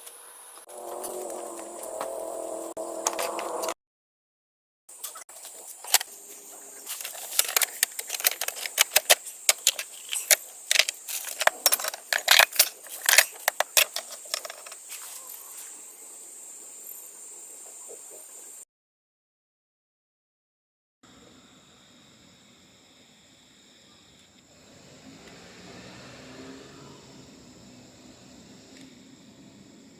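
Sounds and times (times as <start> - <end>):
insect chorus trilling: 0.1 - 3.7, 4.9 - 18.6, 21.0 - 29.9.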